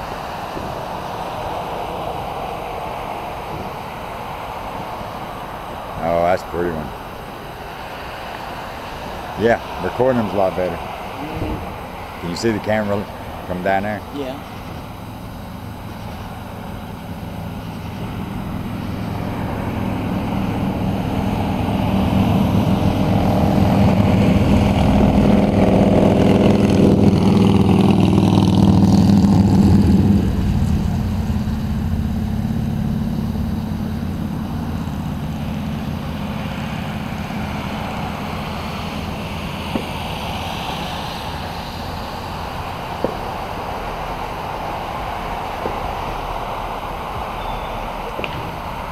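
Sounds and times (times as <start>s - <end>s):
vehicle engine passing by: 7.8s - 48.9s.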